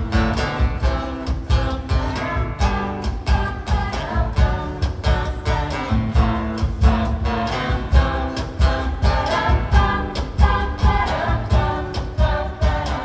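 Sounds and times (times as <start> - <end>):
bass and drum beat: 0.0 - 13.0
strummed acoustic guitar: 0.0 - 13.0.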